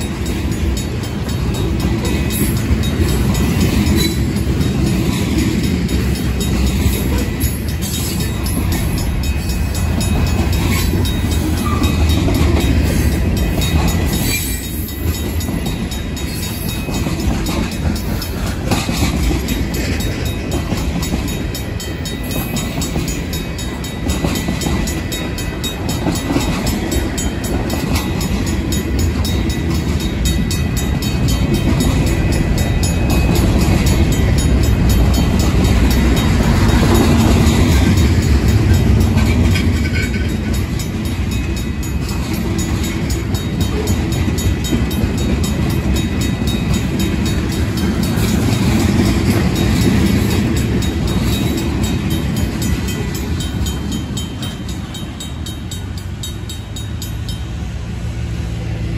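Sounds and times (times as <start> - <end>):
wheels clicking over rail joints: 0.0 - 57.5
crossing bell ringing: 0.0 - 58.9
freight train wheels rumbling: 0.0 - 58.9.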